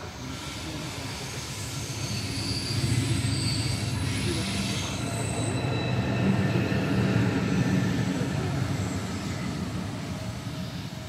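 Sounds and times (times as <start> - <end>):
faint high whining tones: 0.0 - 11.0.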